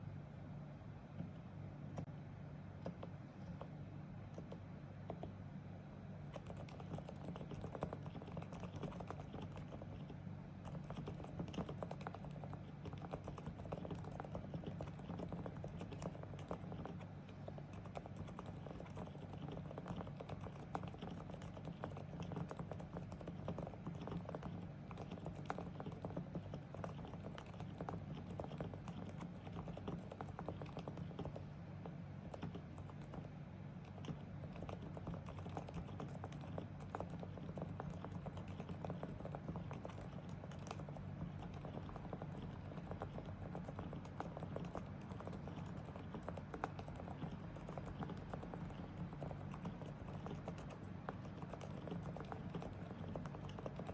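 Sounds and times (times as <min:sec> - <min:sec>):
soft keyboard typing: 0:02.8 - 0:05.4, 0:06.1 - 0:53.9.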